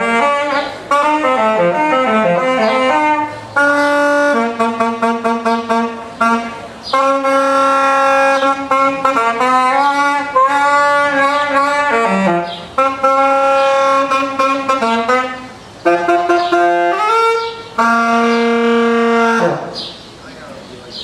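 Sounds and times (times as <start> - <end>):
saxophone slow melody: 0.0 - 19.8.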